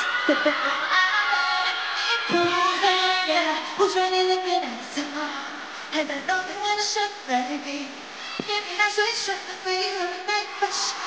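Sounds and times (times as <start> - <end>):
woman singing into microphone: 0.0 - 11.0.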